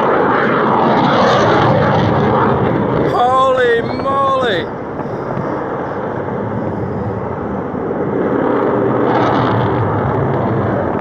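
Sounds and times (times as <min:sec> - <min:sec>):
fighter jet engine rumble: 0:01.4 - 0:11.0.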